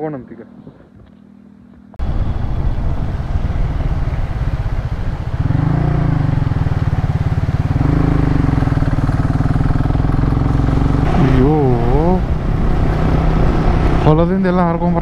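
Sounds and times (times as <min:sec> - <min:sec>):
motorcycle engine revving: 0:02.0 - 0:15.0.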